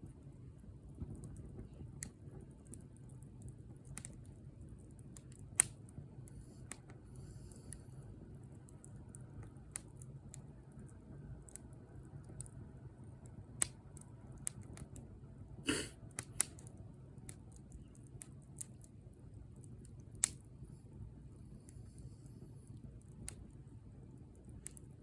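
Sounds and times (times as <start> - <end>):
fire crackles and pops: 0.0 - 25.0
wood fire rumbling: 0.0 - 25.0.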